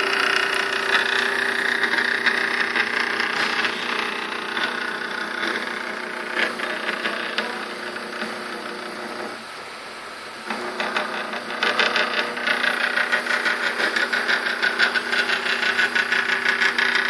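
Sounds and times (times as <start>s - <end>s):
stepper motor whine: 0.0s - 9.5s, 10.4s - 17.0s.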